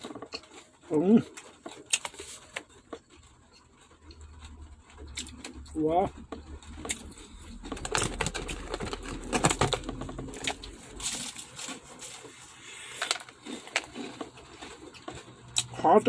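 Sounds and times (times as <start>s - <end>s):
crunchy chewing: 0.0s - 15.8s.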